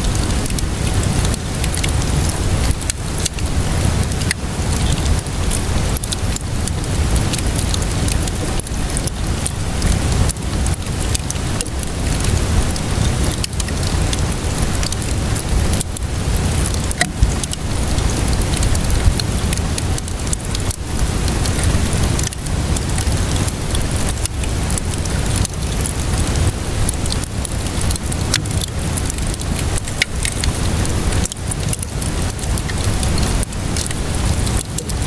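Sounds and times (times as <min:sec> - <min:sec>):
steady rainfall: 0:00.0 - 0:35.0
wood fire crackling: 0:00.0 - 0:35.0.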